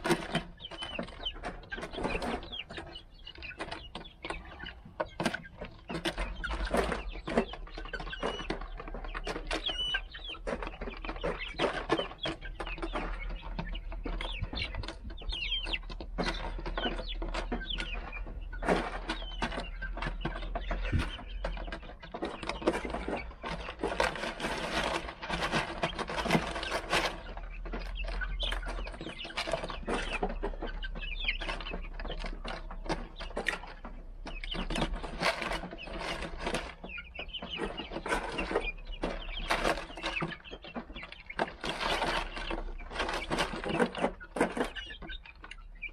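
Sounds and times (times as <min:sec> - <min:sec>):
beaks pecking at feeder: 0:00.0 - 0:45.9
chickens clucking and peeping: 0:00.0 - 0:45.9
scratching and shuffling: 0:00.0 - 0:45.9.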